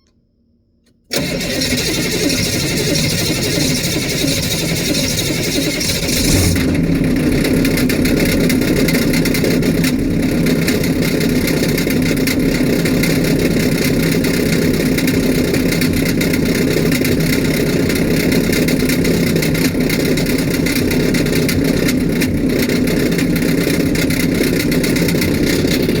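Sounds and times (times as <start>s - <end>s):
diesel engine idling: 1.1s - 26.0s.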